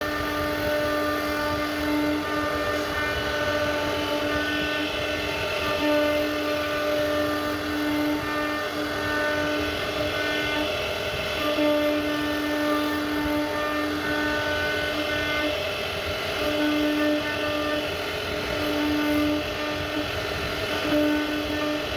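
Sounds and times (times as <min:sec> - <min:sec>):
router spindle whine carving wood: 0:00.0 - 0:21.9.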